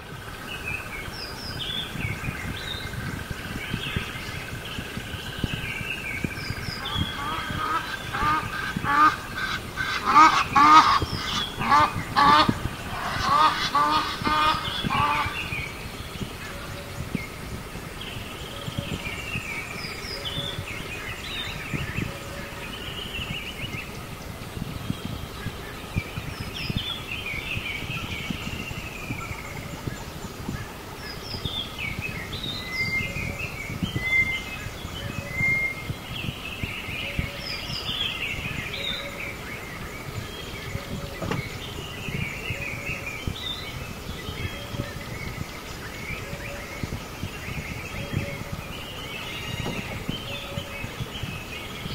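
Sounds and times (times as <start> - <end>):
birds calling: 0.0 - 51.9
outdoor background noise: 0.0 - 51.9.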